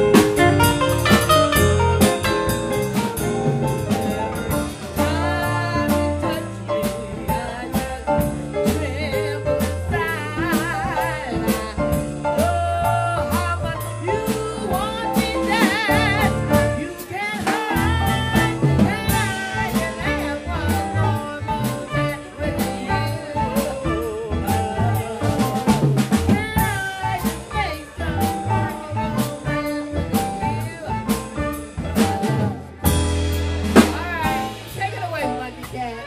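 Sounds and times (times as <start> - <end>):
drum kit: 0.0 - 36.0
keyboard: 0.0 - 36.0
walking double bass: 0.0 - 36.0
woman singing with vibrato: 4.6 - 36.0.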